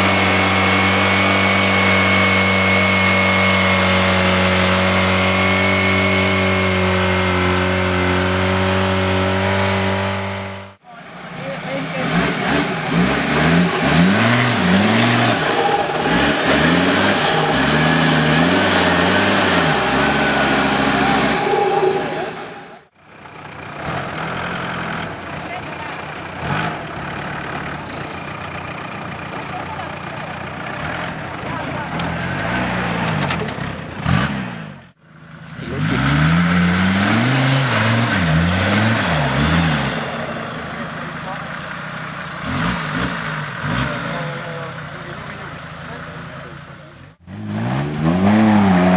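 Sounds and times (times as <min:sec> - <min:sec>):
engine revving: 0:00.0 - 0:23.0, 0:23.6 - 0:48.9.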